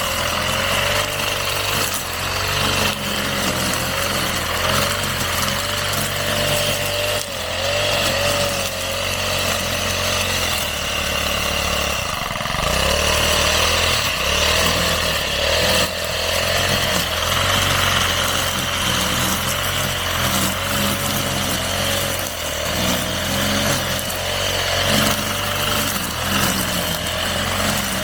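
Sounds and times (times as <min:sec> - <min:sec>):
brush cutter engine cutting grass: 0:00.0 - 0:28.0.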